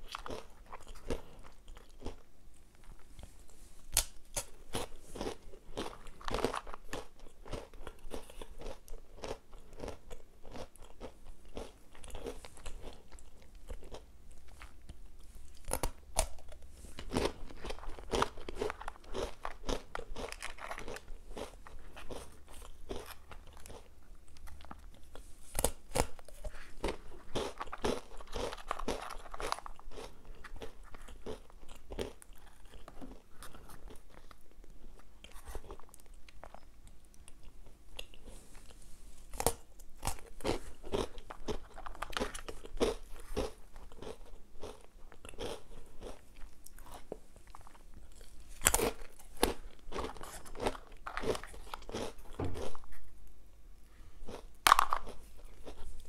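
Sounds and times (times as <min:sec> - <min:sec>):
crunching crisp breadsticks: 0:00.0 - 0:53.2, 0:54.2 - 0:56.0.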